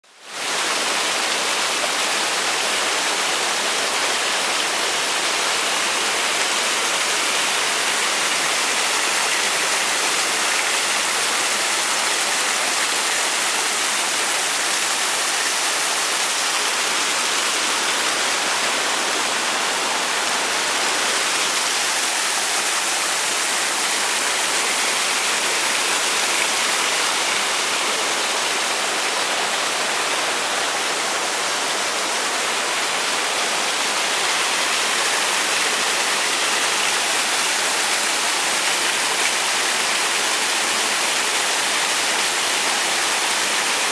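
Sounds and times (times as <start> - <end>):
water rushing: 0.1 - 43.9.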